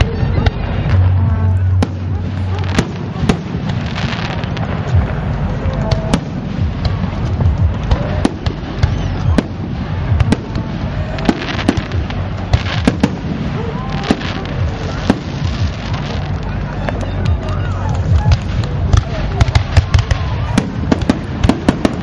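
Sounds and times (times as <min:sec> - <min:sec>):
fireworks bangs and crackles: 0:00.0 - 0:22.0
steady low rumble: 0:00.0 - 0:22.0.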